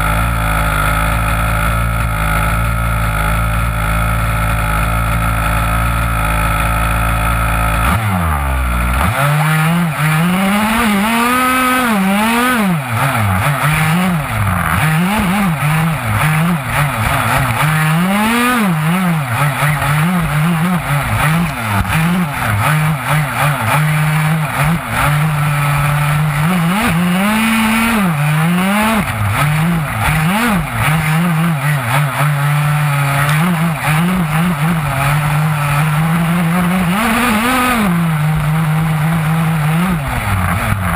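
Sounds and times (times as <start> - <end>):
small two-stroke engine revving: 0.0 - 40.9.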